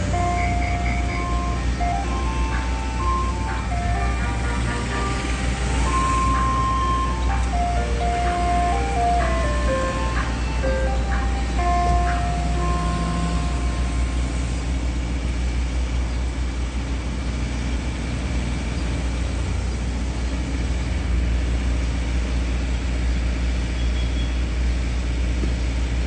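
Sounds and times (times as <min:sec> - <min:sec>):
traffic noise: 0:00.0 - 0:26.0
vehicle engine running: 0:00.0 - 0:26.0.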